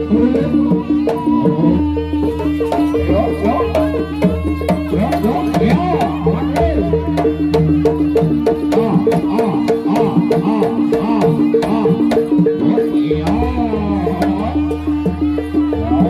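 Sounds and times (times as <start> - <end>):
hand drums with gliding pitches: 0.0 - 16.0
sharp percussion strikes: 0.0 - 16.0.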